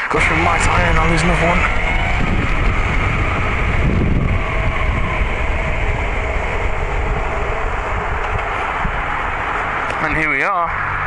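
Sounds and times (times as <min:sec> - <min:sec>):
motorcycle engine rumble: 0:00.0 - 0:11.0
wind rushing over microphone: 0:00.0 - 0:11.0.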